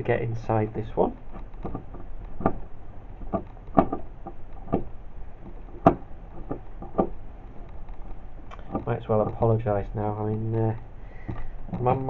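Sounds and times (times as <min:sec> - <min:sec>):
screwdriver clicking and creaking: 0:01.2 - 0:09.6, 0:10.3 - 0:12.0.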